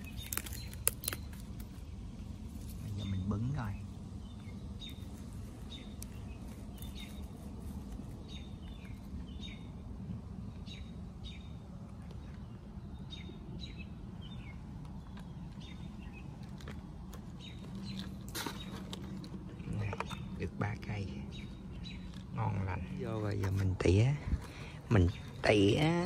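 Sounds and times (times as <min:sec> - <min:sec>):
bird chirping: 0:00.0 - 0:16.6, 0:17.2 - 0:26.0.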